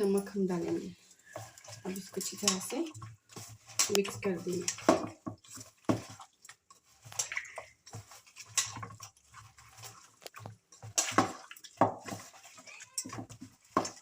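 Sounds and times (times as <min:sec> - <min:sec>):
squelching and slapping in a bowl: 0:00.0 - 0:14.0.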